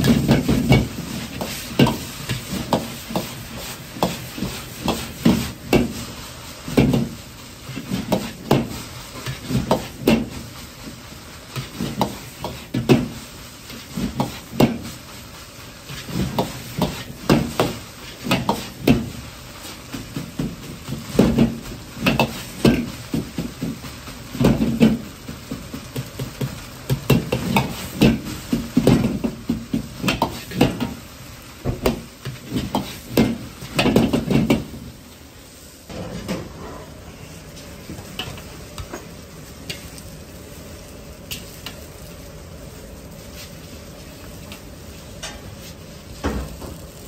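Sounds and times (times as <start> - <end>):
gas burner hiss: 0.0 - 47.0
rice frying: 0.0 - 47.0.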